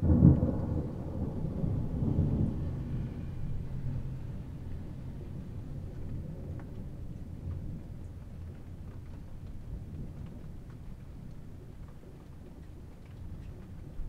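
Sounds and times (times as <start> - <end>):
rain rumble: 0.0 - 14.0
rain ticking: 0.0 - 14.0.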